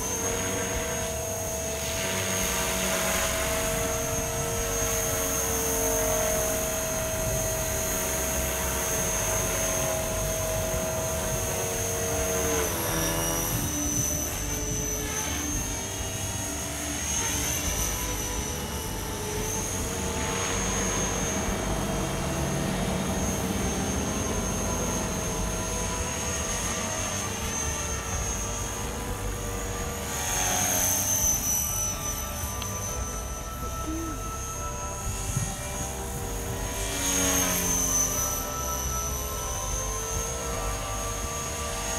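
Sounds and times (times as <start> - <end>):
rc helicopter whine: 0.0 - 41.9.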